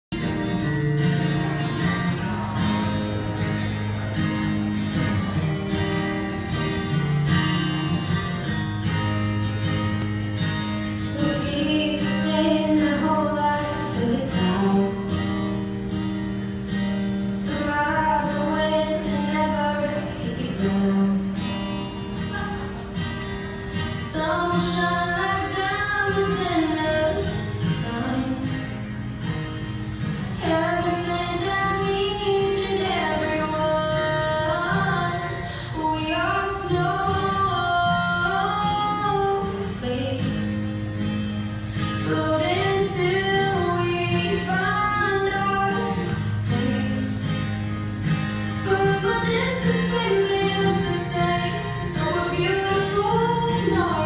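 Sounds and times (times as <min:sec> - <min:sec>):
acoustic guitar: 0:00.0 - 0:54.0.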